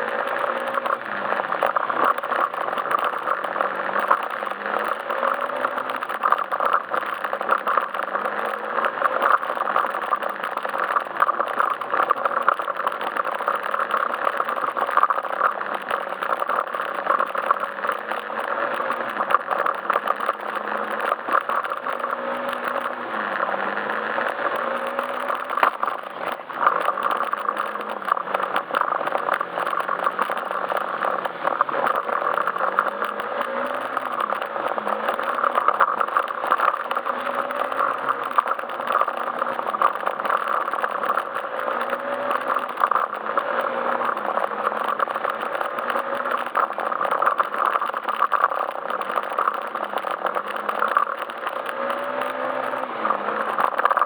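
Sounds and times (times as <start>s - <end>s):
scooter engine revving: 0.0s - 54.0s.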